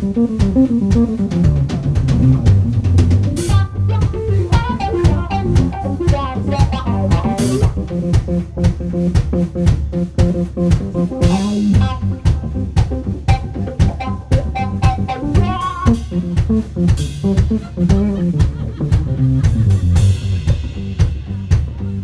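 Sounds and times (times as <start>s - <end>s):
bass guitar: 0.0s - 22.0s
drum kit: 0.0s - 22.0s
electric guitar runs: 0.1s - 20.2s.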